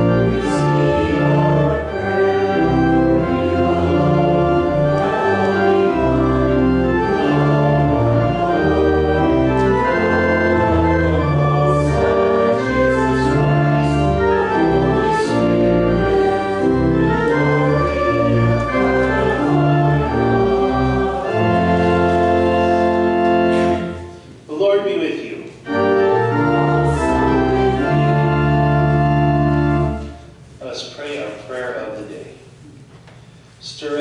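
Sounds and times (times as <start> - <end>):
church organ playing hymn: 0.0 - 32.0.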